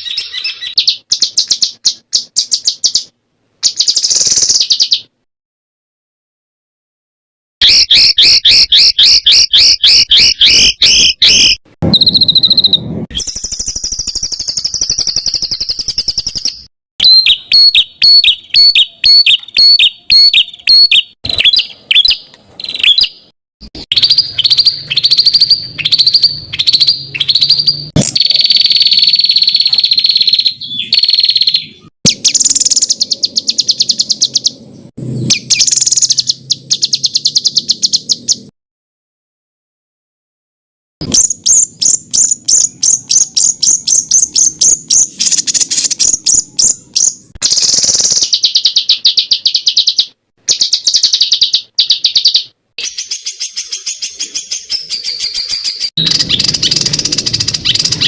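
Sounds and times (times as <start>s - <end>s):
songbird singing: 0.0s - 5.2s, 7.6s - 38.5s, 41.0s - 58.0s.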